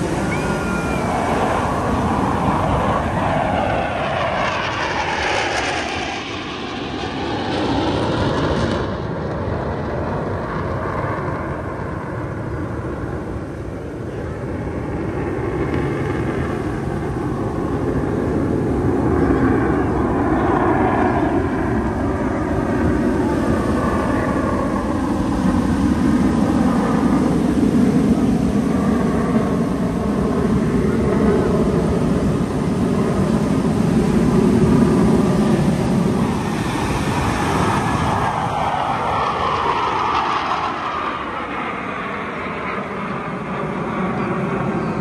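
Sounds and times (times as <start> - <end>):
aircraft passing overhead: 0.0 - 45.0.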